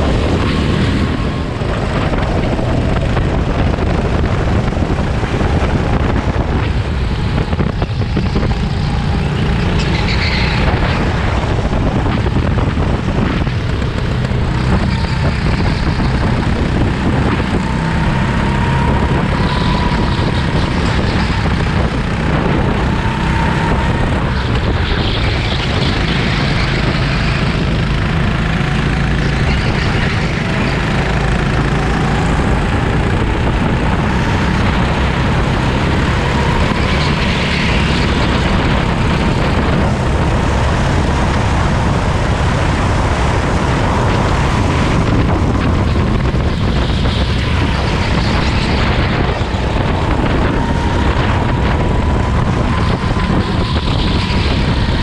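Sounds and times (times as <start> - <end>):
go-kart engine running hard: 0.0 - 55.0
wind noise: 0.0 - 55.0.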